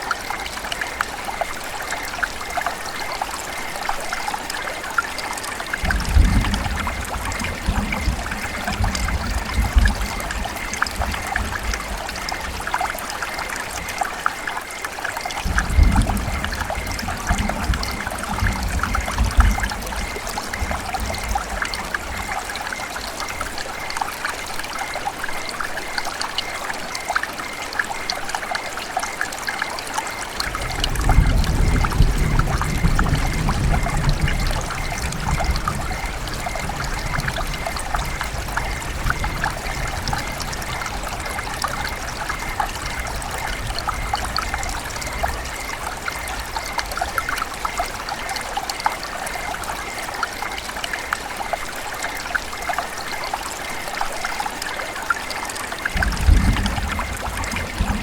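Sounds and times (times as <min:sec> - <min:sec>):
river water trickling: 0:00.0 - 0:58.0.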